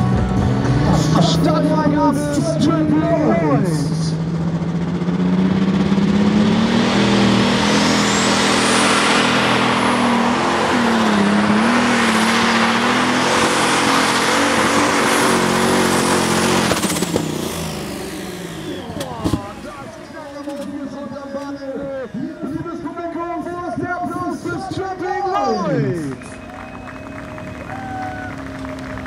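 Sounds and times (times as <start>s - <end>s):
high whine: 0.0s - 28.0s
tractor engine under full load: 0.0s - 29.0s.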